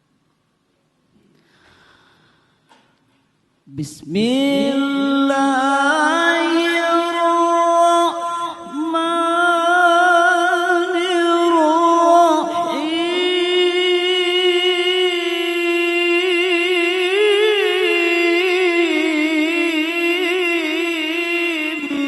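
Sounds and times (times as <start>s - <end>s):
man reciting in long high note: 3.7s - 22.0s.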